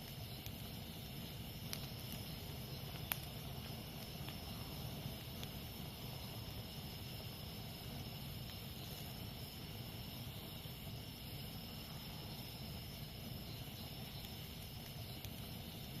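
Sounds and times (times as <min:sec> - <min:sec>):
campfire burning: 0:00.0 - 0:16.0
fire crackles: 0:00.0 - 0:16.0
insects chirring: 0:00.0 - 0:16.0.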